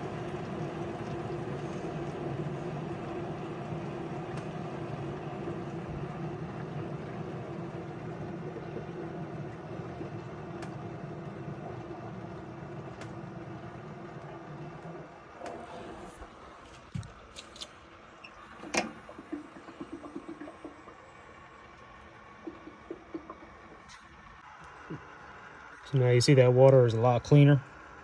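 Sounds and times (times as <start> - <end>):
water rushing into tank: 0.0 - 17.4, 18.2 - 28.0
steady hum: 0.0 - 28.0.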